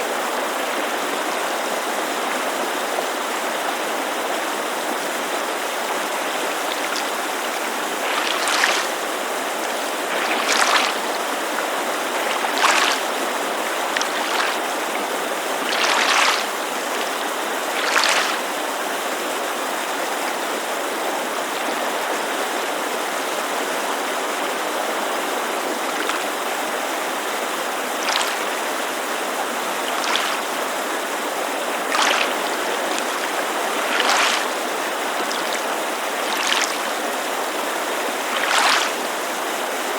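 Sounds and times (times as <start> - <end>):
creek rushing: 0.0 - 39.9
small waves lapping on shore: 0.0 - 39.9.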